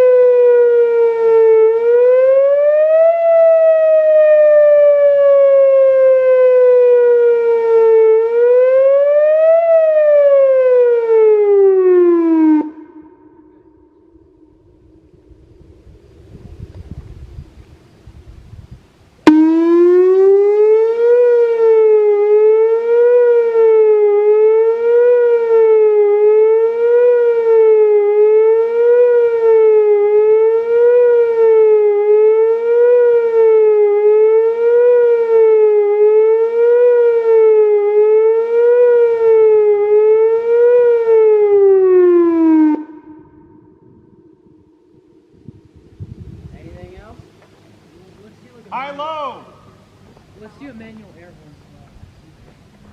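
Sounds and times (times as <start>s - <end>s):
outdoor warning siren rising and falling: 0.0s - 18.4s, 19.2s - 51.3s.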